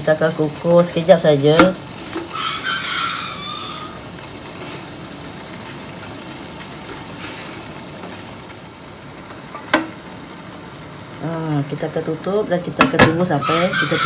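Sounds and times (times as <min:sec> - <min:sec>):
boiling water hissing: 0:00.0 - 0:14.0.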